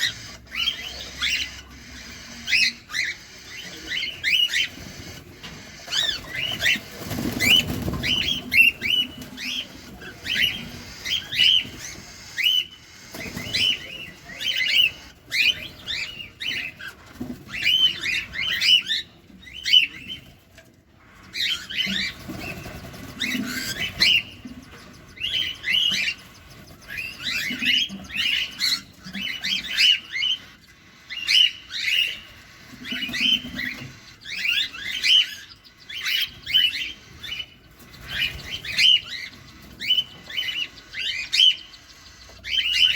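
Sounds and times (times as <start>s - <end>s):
cockatiels chirping: 0.0s - 42.9s.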